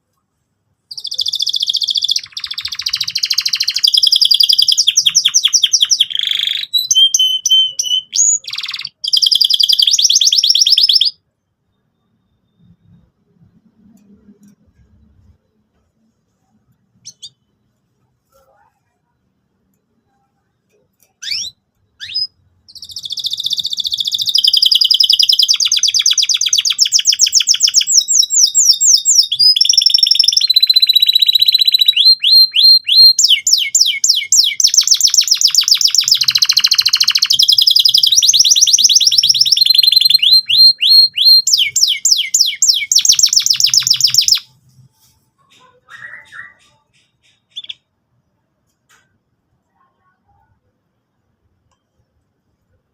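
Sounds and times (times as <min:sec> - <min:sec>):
canary singing trills: 0:00.9 - 0:13.1, 0:16.9 - 0:19.0, 0:19.9 - 0:48.0.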